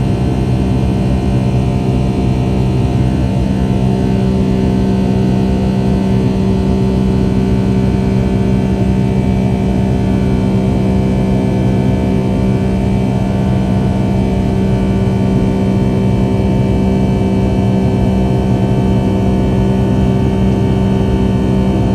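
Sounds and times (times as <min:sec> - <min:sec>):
jet engine cabin drone: 0:00.0 - 0:21.9.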